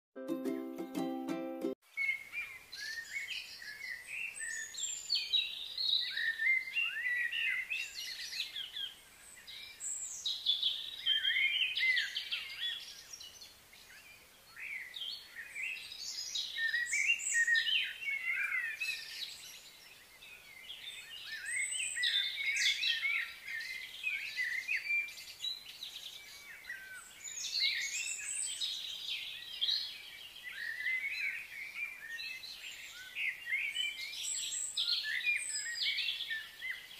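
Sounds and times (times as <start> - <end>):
birds chirping and twittering: 1.9 - 36.9.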